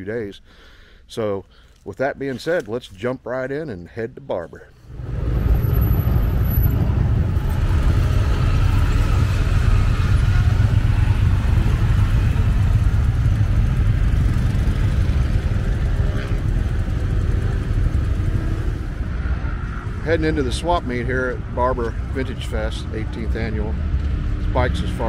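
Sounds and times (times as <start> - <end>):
motorcycle engines rumbling: 4.8 - 25.0.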